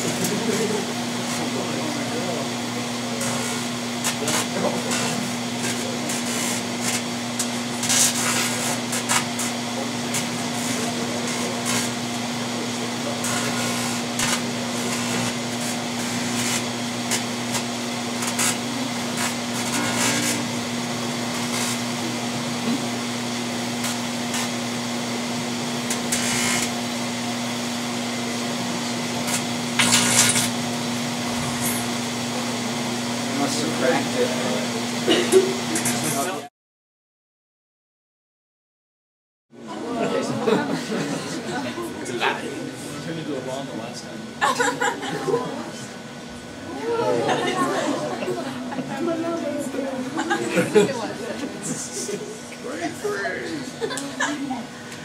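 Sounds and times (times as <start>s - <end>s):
microwave oven humming: 0.0s - 36.5s, 39.6s - 55.0s.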